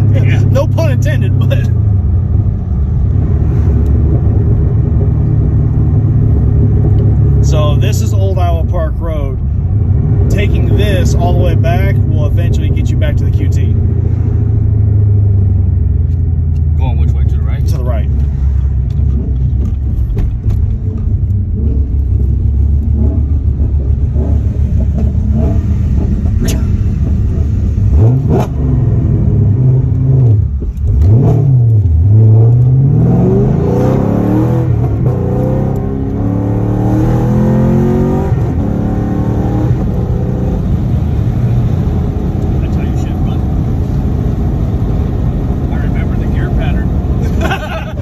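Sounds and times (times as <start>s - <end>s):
car engine revving in cabin: 0.0s - 48.0s.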